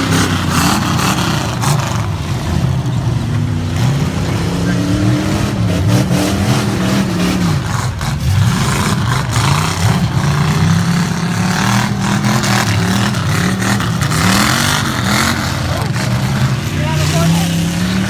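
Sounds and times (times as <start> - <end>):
truck engines revving: 0.0 - 18.0.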